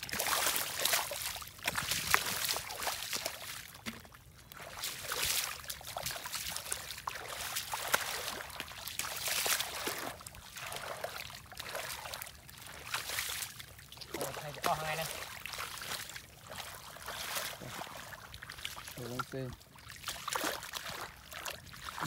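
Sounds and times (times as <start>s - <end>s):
hands splashing in muddy water: 0.0s - 22.0s.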